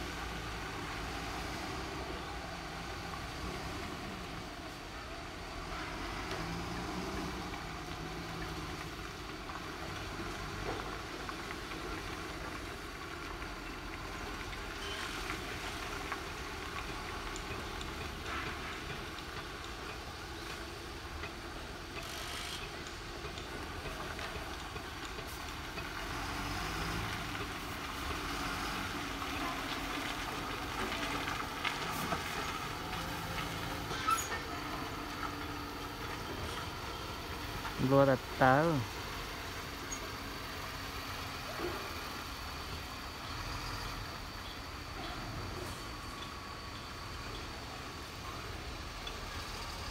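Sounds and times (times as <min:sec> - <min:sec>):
engine and machinery noise: 0:00.0 - 0:49.9.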